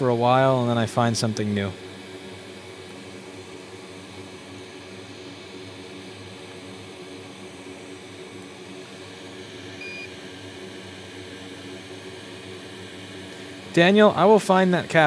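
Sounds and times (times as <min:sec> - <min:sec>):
electrical hum and fan noise: 0:00.0 - 0:15.0.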